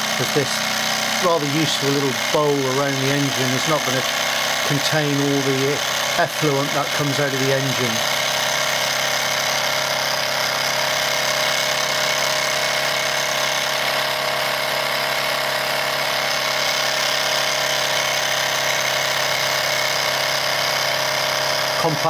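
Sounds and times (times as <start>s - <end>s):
toy steam engine whirring: 0.0s - 22.0s.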